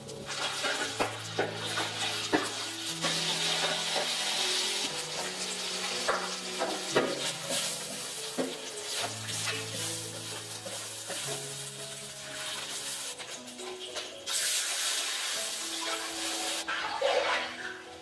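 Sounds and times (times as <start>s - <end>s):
food sizzling in hot oil: 0.0s - 18.0s
soft background music: 0.0s - 18.0s
metal spatula scraping wok: 0.3s - 18.0s.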